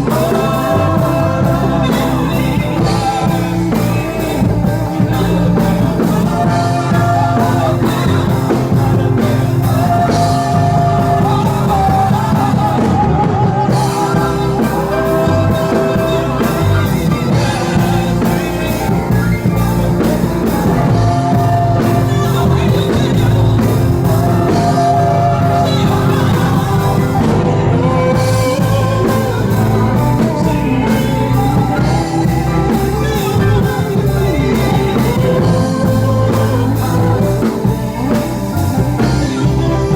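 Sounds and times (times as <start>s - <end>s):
drum bass and guitar: 0.0s - 39.9s
lead vocal singing: 0.0s - 39.9s.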